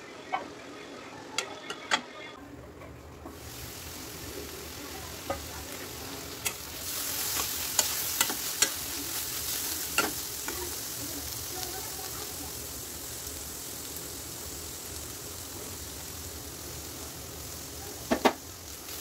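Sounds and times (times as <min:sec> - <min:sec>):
vegetables sizzling in a pan: 0:03.1 - 0:19.0.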